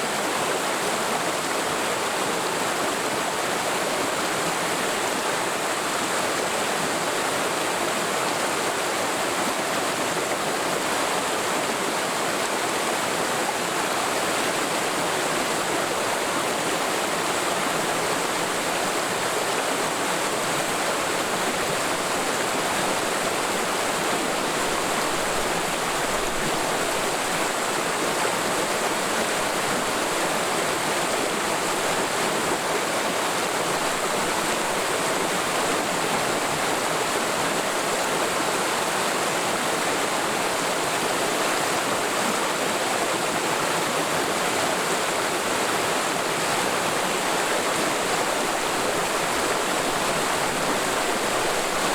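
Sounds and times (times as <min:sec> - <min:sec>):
stream flowing over rocks: 0:00.0 - 0:51.9.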